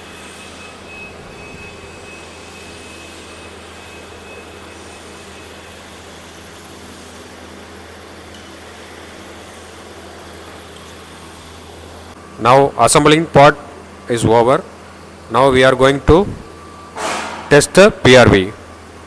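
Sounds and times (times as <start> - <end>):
machinery hum with hiss: 0.0 - 19.0.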